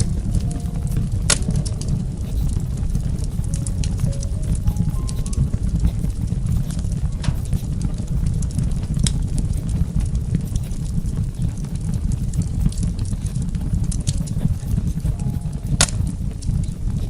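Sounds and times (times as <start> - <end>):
fire crackling: 0.0 - 17.0
fire rumbling: 0.0 - 17.0.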